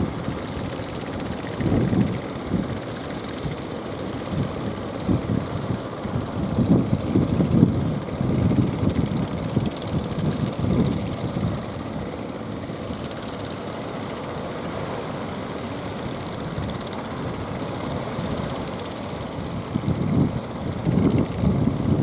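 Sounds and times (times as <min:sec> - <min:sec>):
boat engines running: 0:00.0 - 0:22.0.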